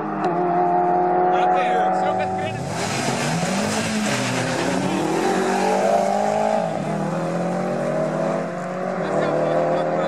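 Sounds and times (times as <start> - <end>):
car engines revving through gears: 0.0 - 10.0.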